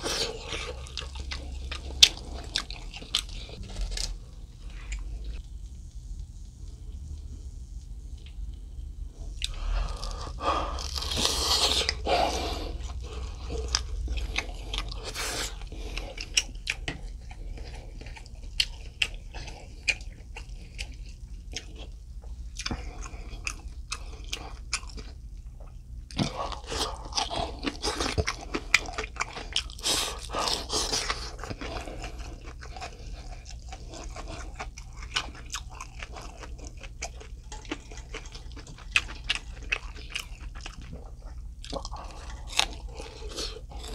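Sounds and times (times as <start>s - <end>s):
wet chewing and smacking: 0.0s - 3.6s, 10.8s - 43.9s.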